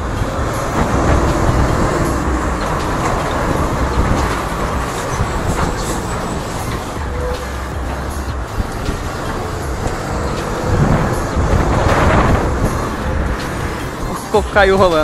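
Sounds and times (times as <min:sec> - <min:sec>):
road noise: 0:00.0 - 0:15.0
truck body rattling: 0:00.0 - 0:15.0
truck engine rumble: 0:00.0 - 0:15.0.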